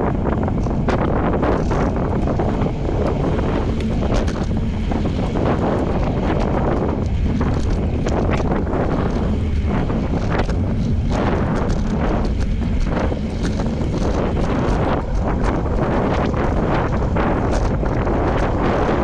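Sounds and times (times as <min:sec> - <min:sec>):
wind buffeting microphone: 0:00.0 - 0:19.0
faint clicks and rattles: 0:00.2 - 0:19.0.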